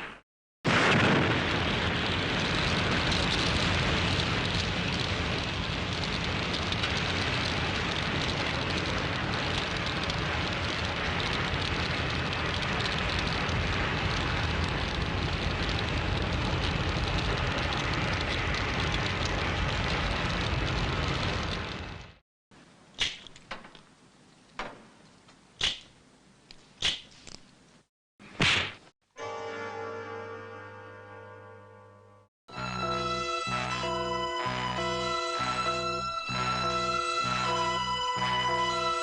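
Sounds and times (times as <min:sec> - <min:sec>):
large fire crackling: 0:00.0 - 0:28.6, 0:32.5 - 0:39.0.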